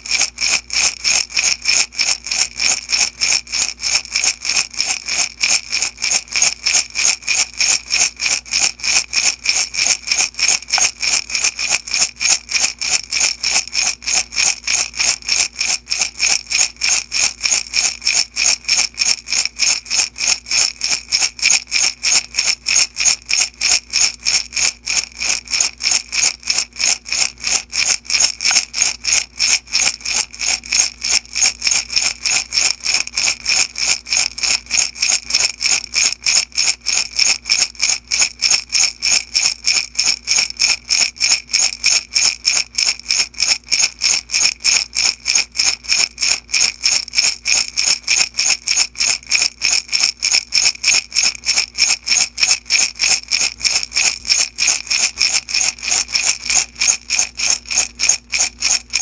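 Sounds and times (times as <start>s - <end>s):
beads rattling in glass jar: 0.0s - 59.0s.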